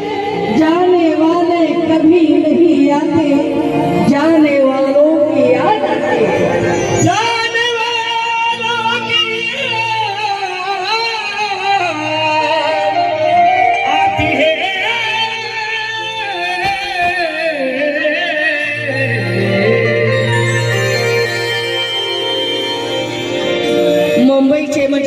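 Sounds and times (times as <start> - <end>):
person singing wordless melody: 0.0 - 25.0.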